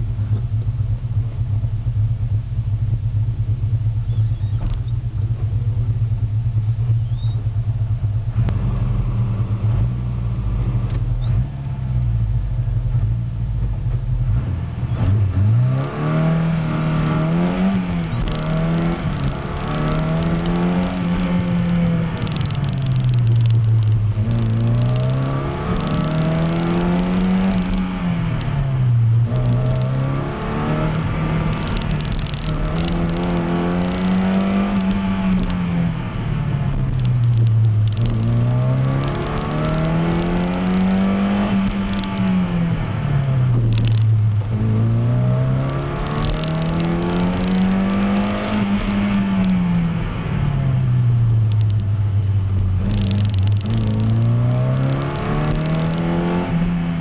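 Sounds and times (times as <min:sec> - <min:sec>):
car engine revving: 0:04.3 - 0:57.0.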